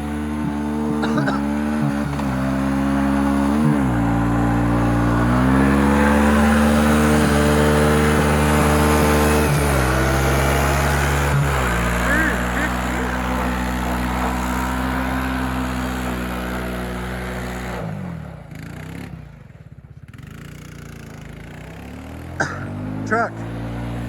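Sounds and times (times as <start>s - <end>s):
vehicle engine running hard: 0.0s - 24.0s.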